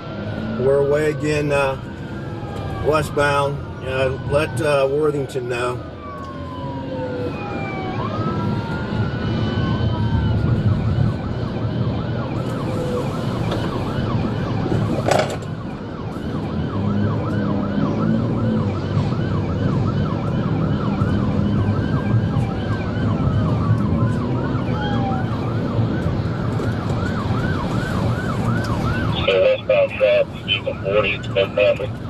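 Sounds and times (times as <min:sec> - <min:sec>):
engine and road rumble: 0:00.0 - 0:32.0
police siren yelping: 0:00.0 - 0:32.0
slower siren sweeping: 0:00.0 - 0:32.0.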